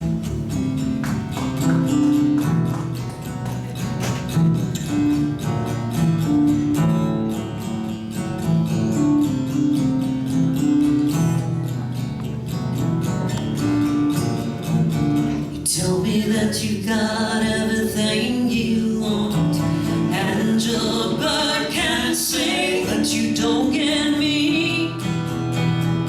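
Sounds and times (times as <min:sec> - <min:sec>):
guitar chords strummed: 0:00.0 - 0:26.0.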